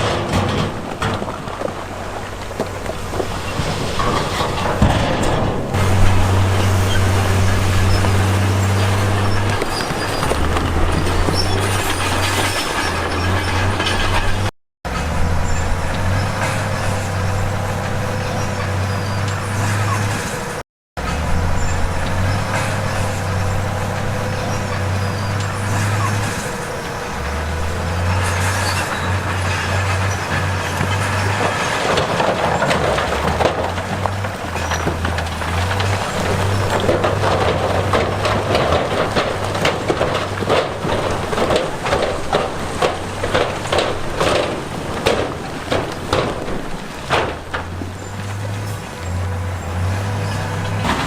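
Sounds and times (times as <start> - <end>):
diesel machinery engine drone: 0.0 - 51.0.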